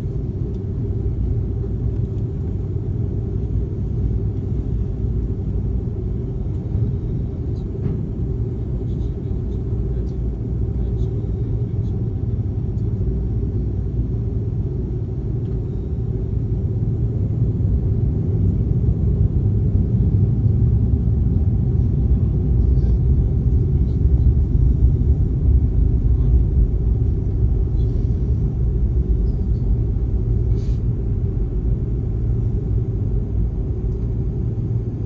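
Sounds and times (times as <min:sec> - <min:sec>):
jet engines low rumble: 0:00.0 - 0:35.0.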